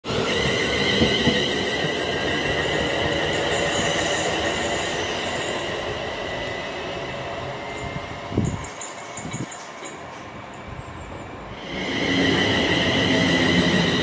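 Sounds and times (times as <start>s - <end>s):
electric train whine: 0.0s - 14.0s.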